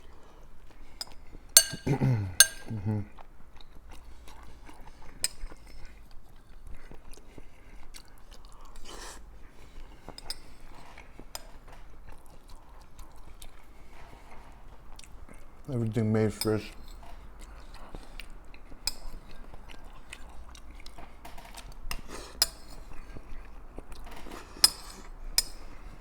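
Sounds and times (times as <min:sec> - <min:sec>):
chewing crunchy chips: 0:00.1 - 0:15.6, 0:17.0 - 0:26.0.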